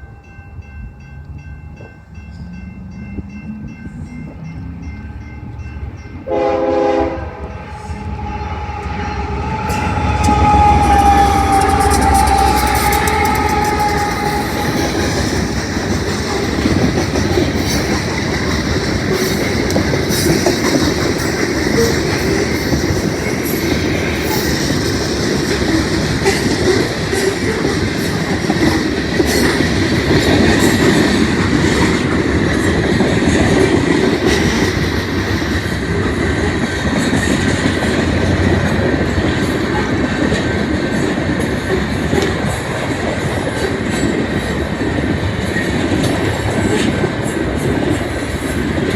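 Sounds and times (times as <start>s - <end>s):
freight cars rumbling on rails: 0.0s - 48.9s.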